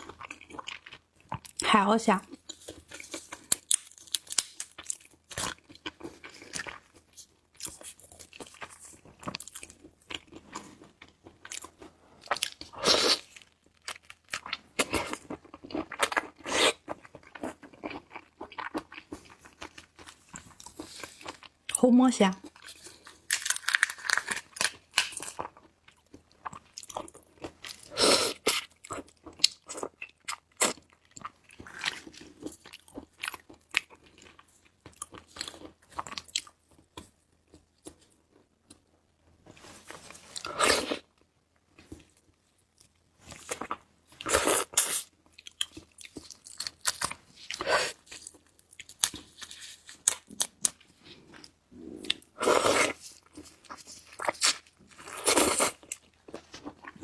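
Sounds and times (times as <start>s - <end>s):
chewing and crunching prawn: 0.0s - 21.8s, 22.4s - 38.9s, 39.5s - 57.0s.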